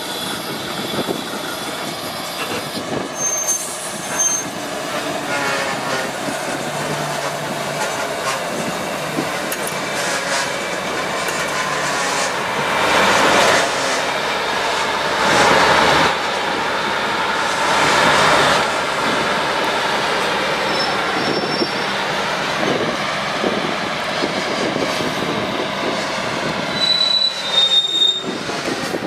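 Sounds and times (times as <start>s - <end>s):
diesel locomotive engine: 0.0s - 29.0s
tank cars rolling on rails: 0.0s - 29.0s.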